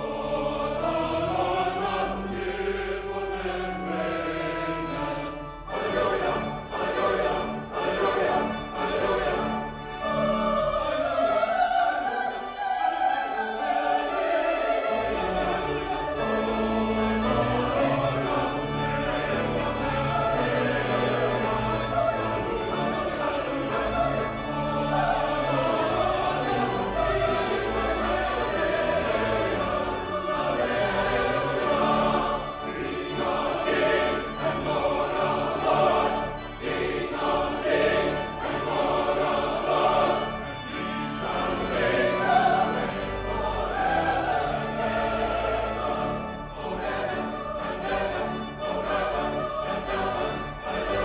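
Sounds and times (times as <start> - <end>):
choir singing with orchestra: 0.0 - 51.0.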